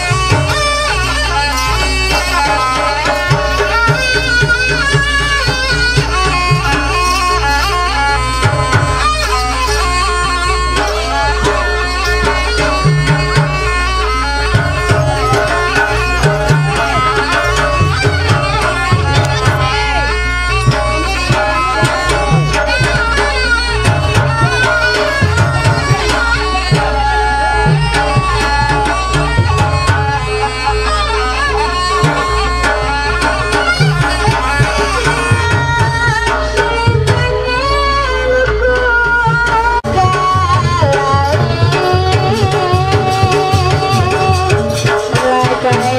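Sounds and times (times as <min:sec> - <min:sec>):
hand drums beating: 0:00.0 - 0:45.9
reed wind instrument melody: 0:00.0 - 0:45.9.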